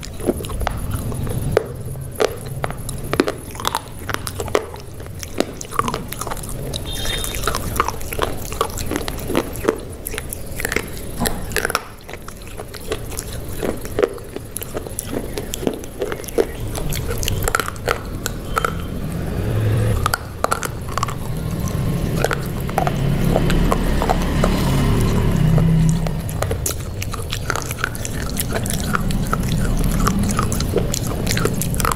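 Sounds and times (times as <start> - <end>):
person chewing crunchy food: 0.0 - 31.9
wet mouth clicks: 0.0 - 31.9.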